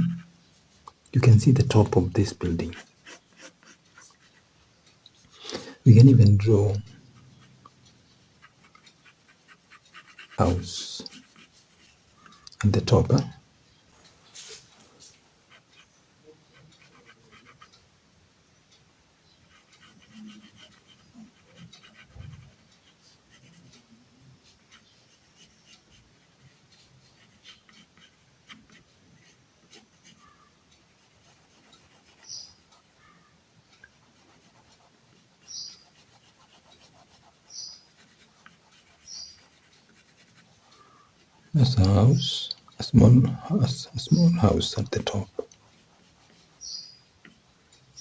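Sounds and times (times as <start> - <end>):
pencil scratching on paper: 0.0 - 4.4, 8.4 - 13.3, 15.4 - 17.8, 19.4 - 33.1, 33.8 - 48.0.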